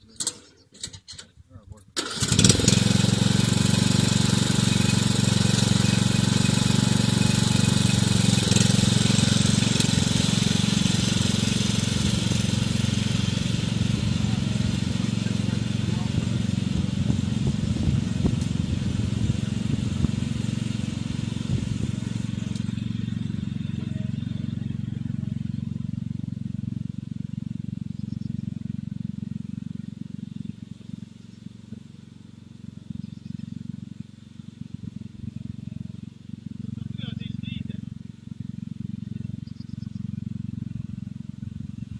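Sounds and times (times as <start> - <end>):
lawn tractor engine running: 2.0 - 41.9.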